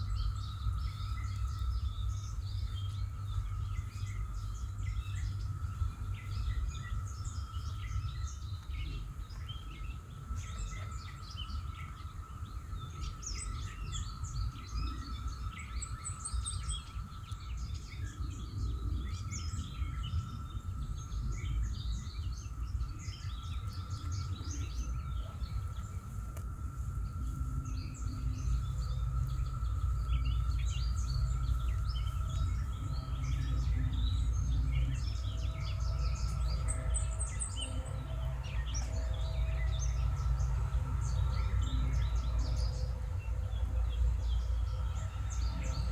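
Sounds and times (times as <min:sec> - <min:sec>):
high-pitched hum: 0:00.0 - 0:45.9
low rumble: 0:00.0 - 0:45.9
songbirds chirping: 0:00.0 - 0:45.9.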